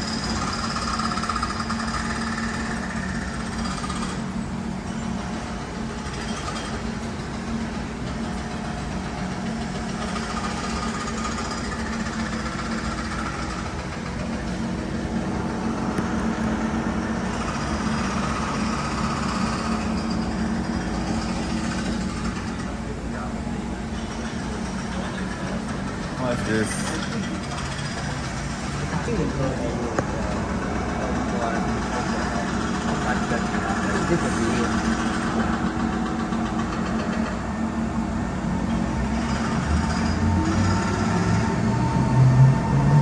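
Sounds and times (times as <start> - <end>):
train equipment humming and rattling: 0.0 - 43.0.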